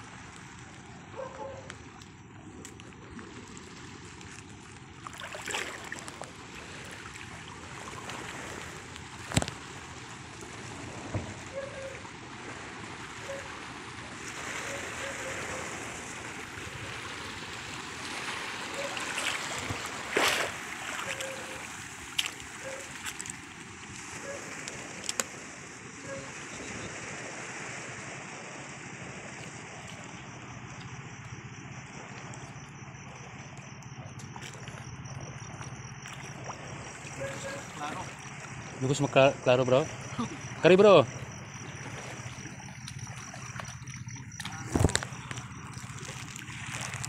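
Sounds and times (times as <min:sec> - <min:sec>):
seawater lapping: 0:00.0 - 0:47.0
sharp splashes and knocks: 0:01.6 - 0:14.5, 0:16.0 - 0:25.5, 0:29.3 - 0:39.2, 0:39.8 - 0:47.0.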